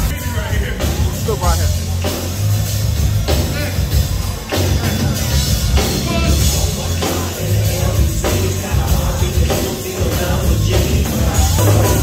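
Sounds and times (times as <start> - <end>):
live band playing loud music: 0.0 - 12.0.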